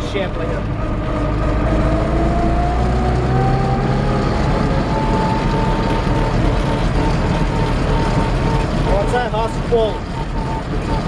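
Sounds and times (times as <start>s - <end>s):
tractor diesel engine under load: 0.0s - 11.0s
whining tone climbing in pitch: 0.0s - 11.0s.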